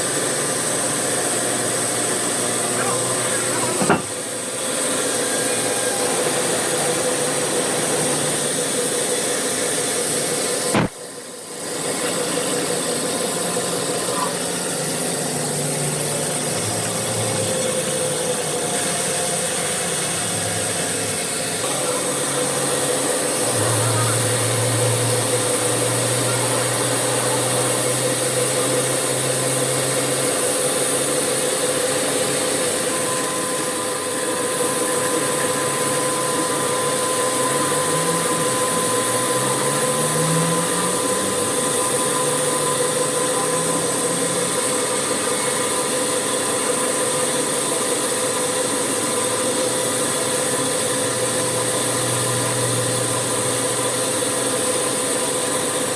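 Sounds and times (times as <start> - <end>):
machinery humming and hissing: 0.0 - 55.9.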